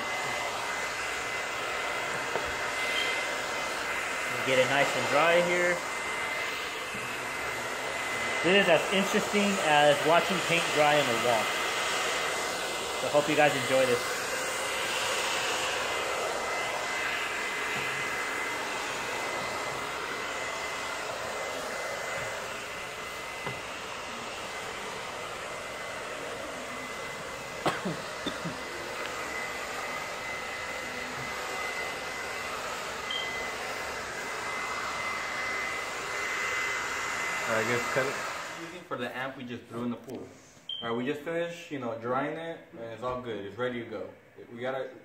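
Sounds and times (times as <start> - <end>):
hair dryer blowing: 0.0 - 38.8.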